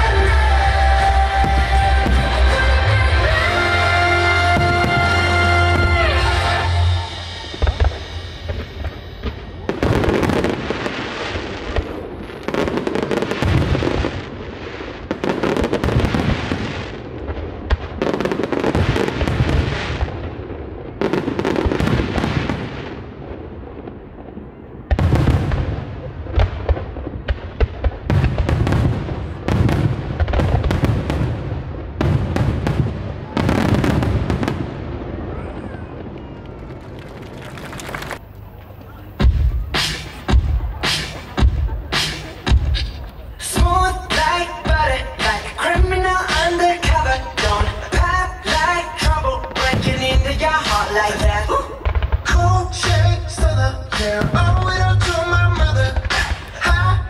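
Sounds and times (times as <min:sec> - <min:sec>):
firework crackle: 0:04.4 - 0:57.0.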